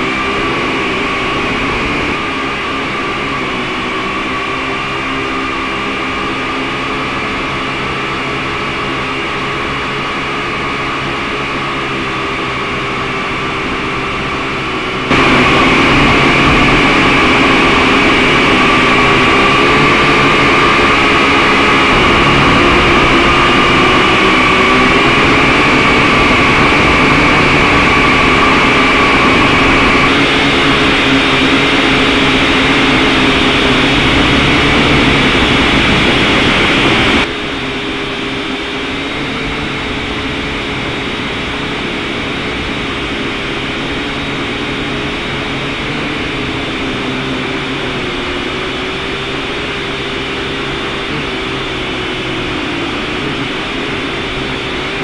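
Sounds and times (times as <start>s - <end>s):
quadcopter drone whine: 0.0s - 55.0s.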